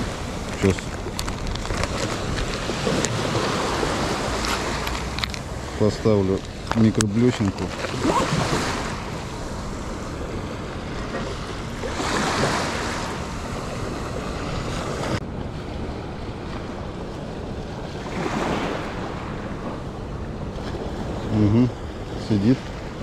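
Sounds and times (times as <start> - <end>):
surf washing onto shore: 0.0 - 23.0
wind buffeting microphone: 0.0 - 23.0.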